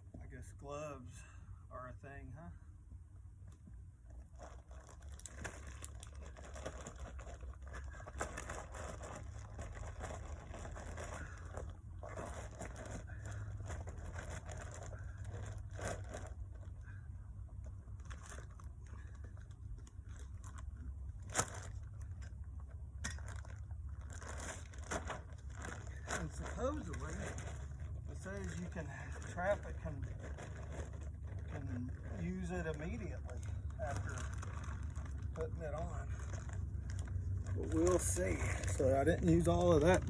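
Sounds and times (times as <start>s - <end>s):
low steady rumble: 0.0s - 40.0s
gravelly asphalt crunching and scraping: 3.5s - 40.0s.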